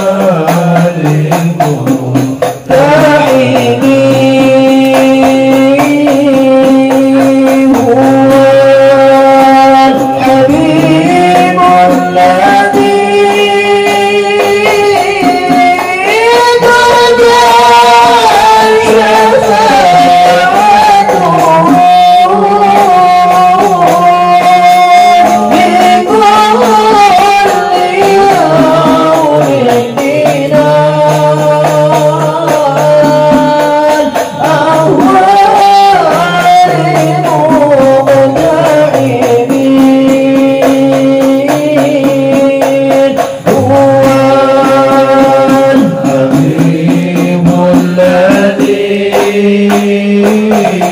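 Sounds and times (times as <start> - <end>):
men chanting into microphone: 0.0 - 50.9.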